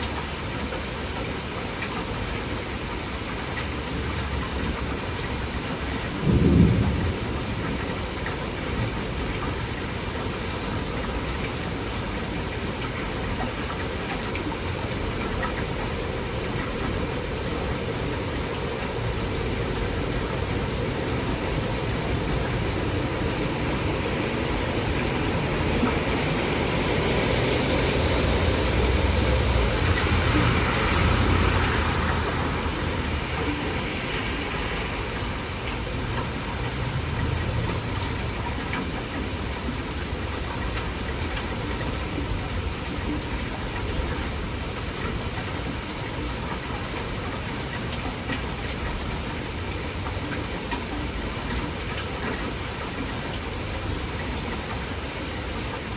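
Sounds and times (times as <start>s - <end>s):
heavy rain downpour: 0.0s - 55.9s.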